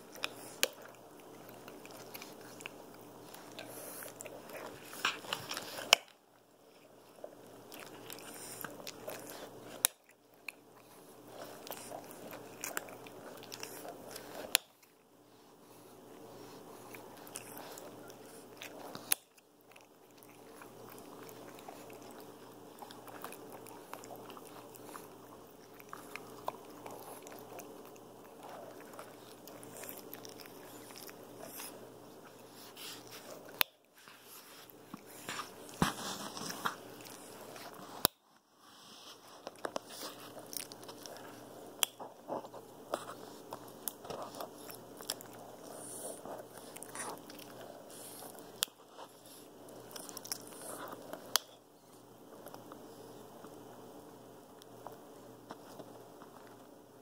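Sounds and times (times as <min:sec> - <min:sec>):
close rustling and crackling: 0:00.0 - 0:53.8.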